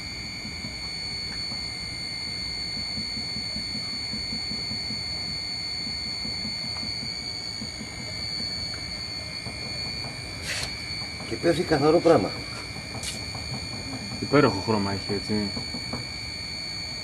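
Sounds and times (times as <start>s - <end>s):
honey extractor rumble and whine: 0.0s - 17.0s.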